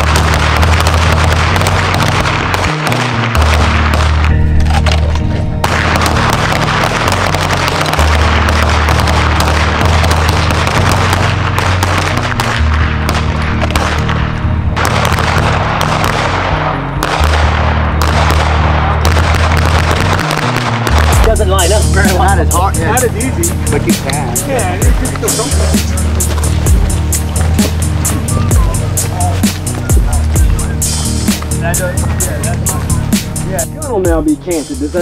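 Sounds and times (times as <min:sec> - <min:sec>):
rapid pistol fire: 0:00.0 - 0:04.4, 0:05.6 - 0:33.5
music with heavy bass: 0:00.0 - 0:35.0.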